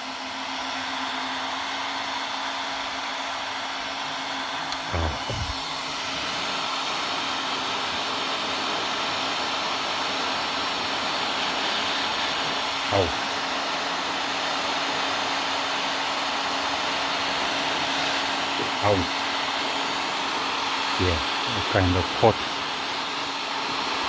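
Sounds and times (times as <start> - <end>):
heat gun blowing air: 0.0 - 24.0.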